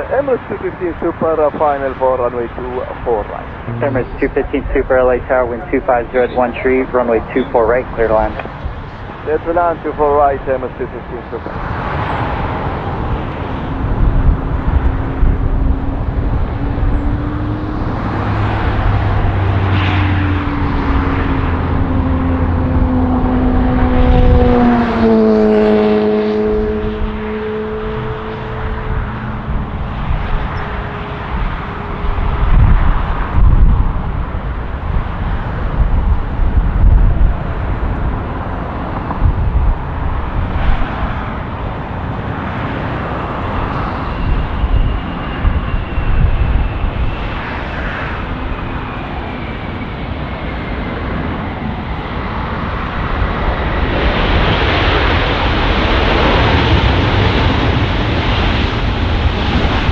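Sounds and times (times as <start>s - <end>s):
gusty low rumble: 0.0s - 59.9s
jet engine whine and roar: 0.0s - 59.9s.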